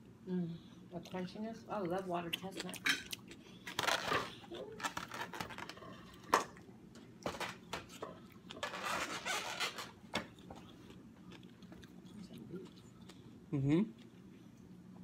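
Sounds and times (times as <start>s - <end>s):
crunchy chewing: 2.2s - 14.6s.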